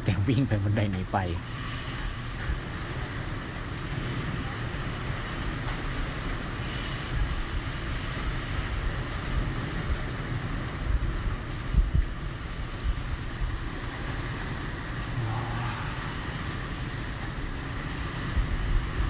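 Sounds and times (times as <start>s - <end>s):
strong wind low rumble: 0.0s - 19.0s.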